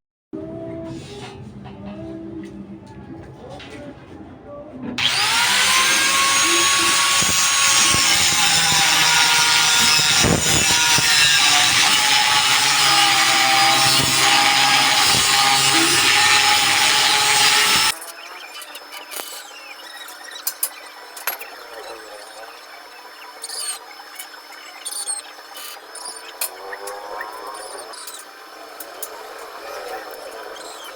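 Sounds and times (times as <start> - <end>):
handheld power tool motor: 5.0 - 30.9.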